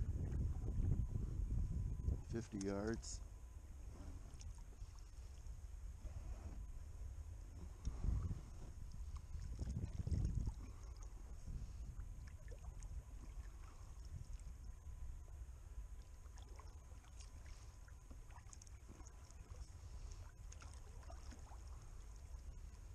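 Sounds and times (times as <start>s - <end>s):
low steady rumble: 0.0s - 22.9s
water lapping against a hull: 0.0s - 22.9s.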